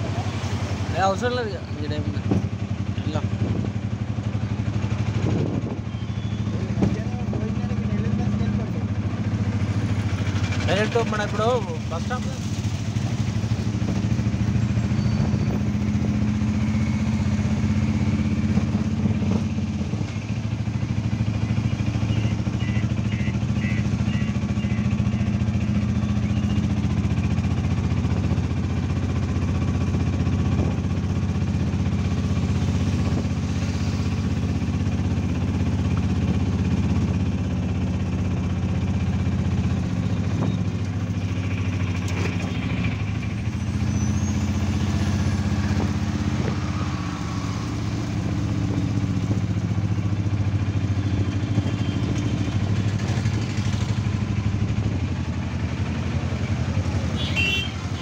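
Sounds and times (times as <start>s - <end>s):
auto-rickshaw engine running: 0.0s - 58.0s
road noise: 0.0s - 58.0s.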